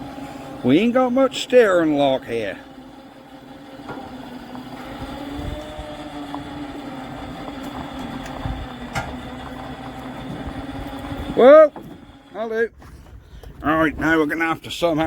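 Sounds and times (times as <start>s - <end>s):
electric winch motor humming: 0.0s - 14.5s.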